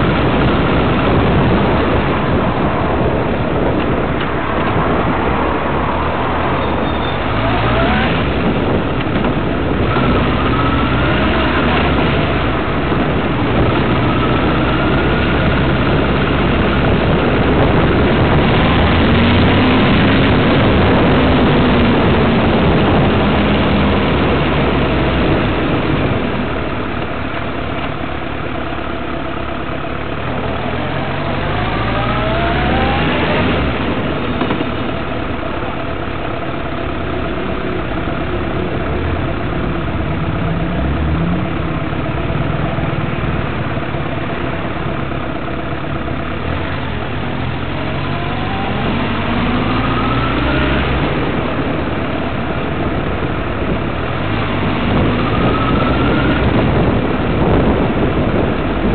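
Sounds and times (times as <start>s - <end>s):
road and wind noise: 0.0s - 58.9s
vehicle engine running: 0.0s - 58.9s.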